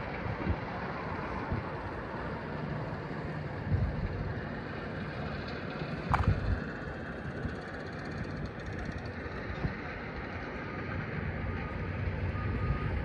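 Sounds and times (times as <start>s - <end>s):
wind blowing across microphone: 0.0s - 10.6s.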